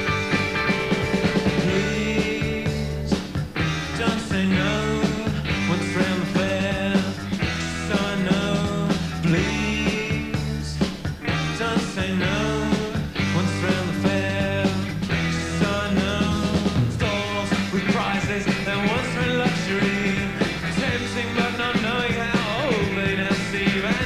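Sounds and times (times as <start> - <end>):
psychedelic rock band playing: 0.0 - 24.0.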